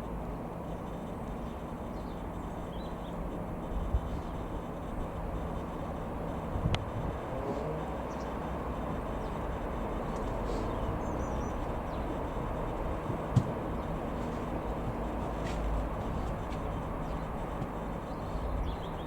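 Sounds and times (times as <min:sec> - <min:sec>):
outdoor noise: 0:00.0 - 0:19.0
piston engine droning: 0:00.0 - 0:19.0.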